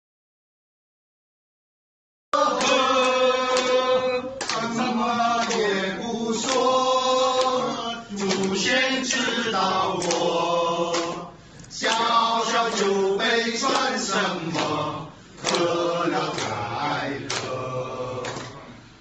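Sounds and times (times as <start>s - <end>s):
hand claps: 2.4s - 14.8s, 15.4s - 18.6s
men singing in unison: 2.4s - 18.8s.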